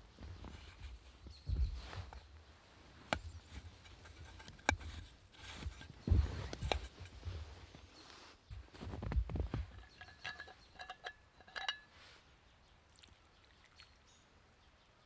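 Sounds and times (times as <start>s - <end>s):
rustling: 0.0s - 12.3s.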